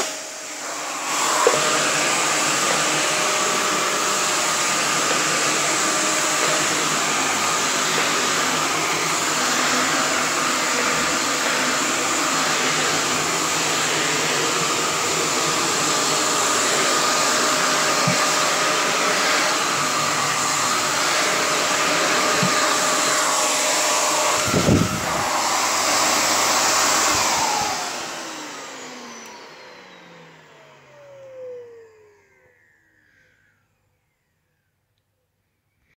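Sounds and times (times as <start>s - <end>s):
vacuum cleaner running: 0.0s - 35.8s.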